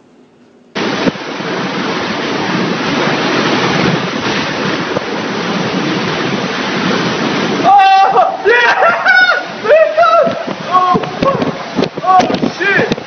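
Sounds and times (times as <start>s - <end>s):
strong storm wind: 0.8s - 13.0s.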